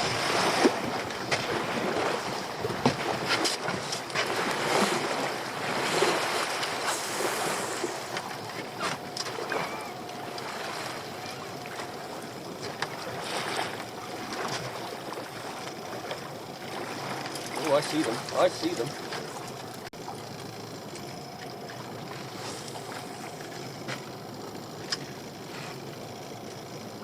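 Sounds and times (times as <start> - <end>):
sea water slapping boat hull: 0.0 - 27.0.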